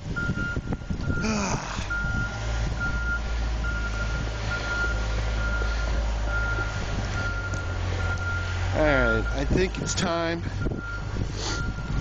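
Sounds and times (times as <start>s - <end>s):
low engine rumble: 0.0s - 12.0s
truck reverse alarm beeping: 0.2s - 12.0s.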